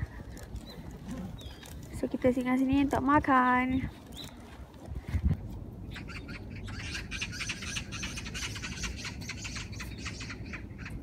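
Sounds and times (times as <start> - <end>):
flock of birds chirping: 0.0 - 2.4, 3.1 - 11.0.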